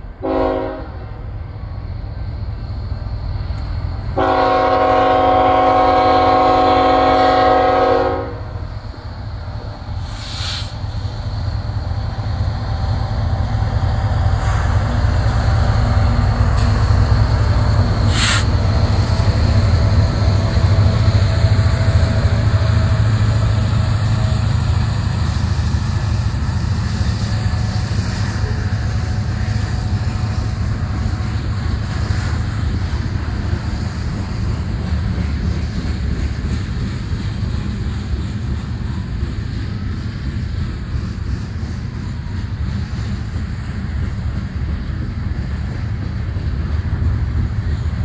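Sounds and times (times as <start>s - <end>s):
diesel locomotives passing: 0.0s - 48.0s
heavy rumble of wheels on rail: 0.0s - 48.0s.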